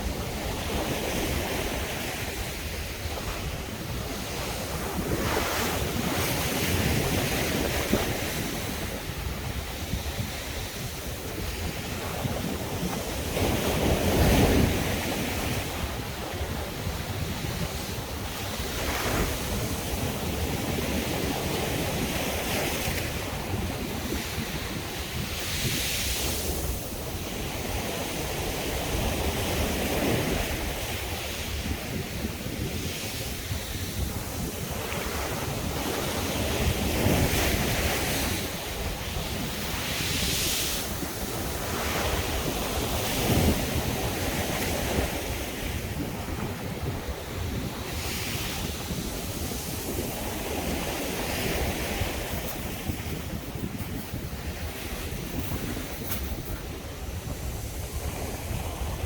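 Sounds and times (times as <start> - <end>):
surf breaking on beach: 0.0 - 59.0
wind buffeting microphone: 0.0 - 59.0.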